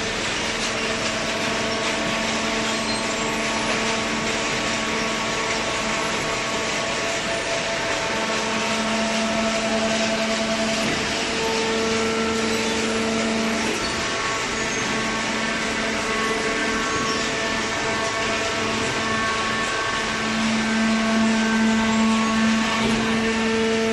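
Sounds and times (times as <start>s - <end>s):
baler machine humming din: 0.1s - 23.9s.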